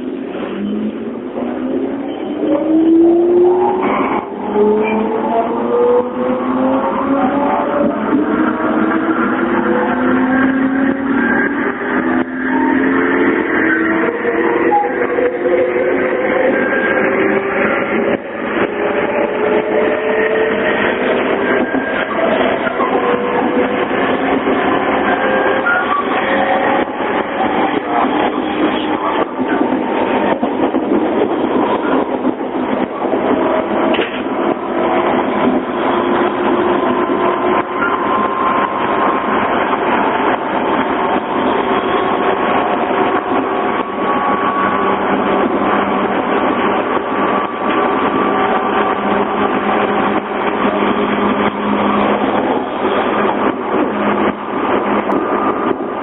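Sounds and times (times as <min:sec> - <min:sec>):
train running noise: 0:00.0 - 0:56.0.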